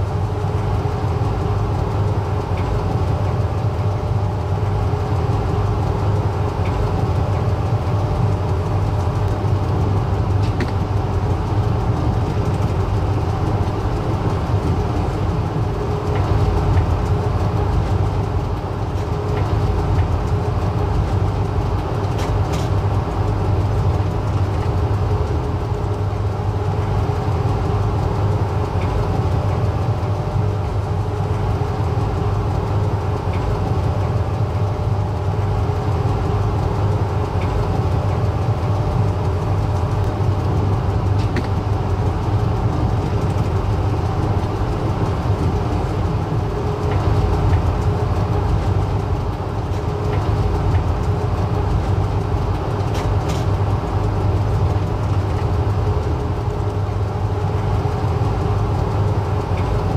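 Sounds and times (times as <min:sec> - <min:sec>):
faint hum: 0:00.0 - 0:59.9
train rumble inside carriage: 0:00.0 - 0:59.9.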